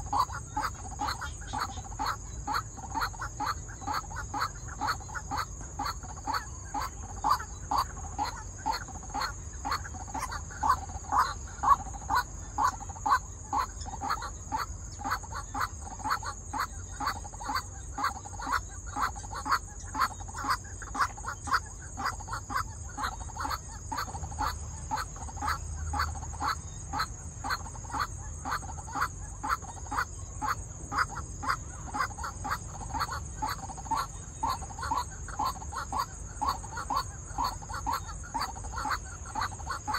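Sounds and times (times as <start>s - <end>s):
waterhen calling: 0.0s - 39.9s.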